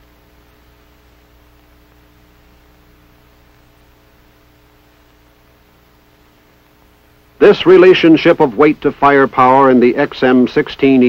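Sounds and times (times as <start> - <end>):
low mains hum: 0.0 - 11.0
steady hiss: 0.0 - 11.0.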